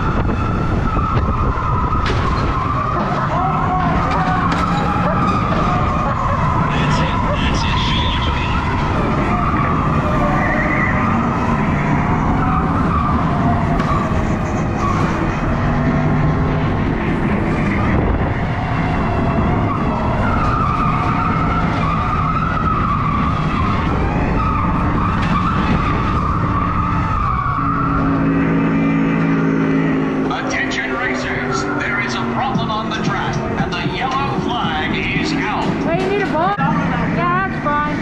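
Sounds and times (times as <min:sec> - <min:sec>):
go-kart rumbling: 0:00.0 - 0:38.0
go-kart tyres squealing: 0:00.0 - 0:38.0.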